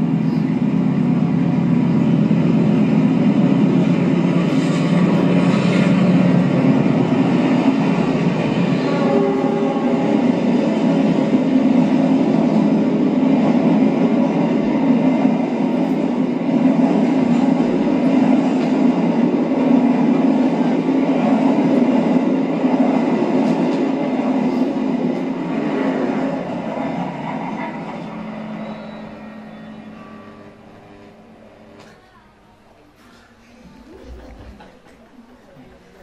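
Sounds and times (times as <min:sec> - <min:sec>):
train rumbling past: 0:00.0 - 0:32.2.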